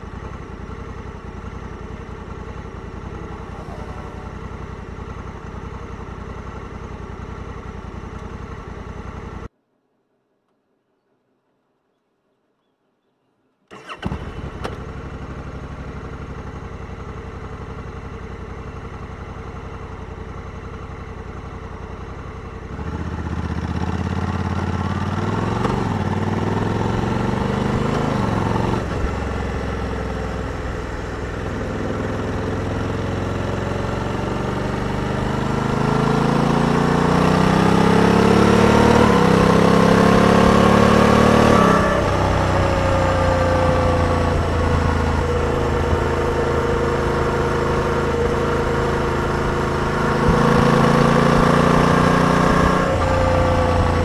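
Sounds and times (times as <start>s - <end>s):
motorcycle engine revving: 0.0s - 9.5s, 13.7s - 54.0s.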